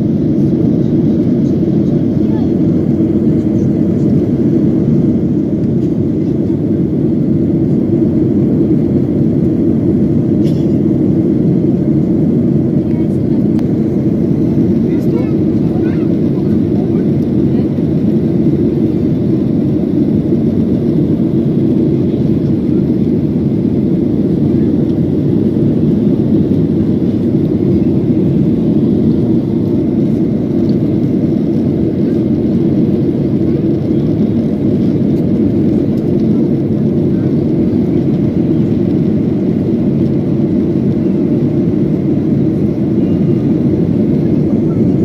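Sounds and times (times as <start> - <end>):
airliner cabin drone: 0.0 - 45.0.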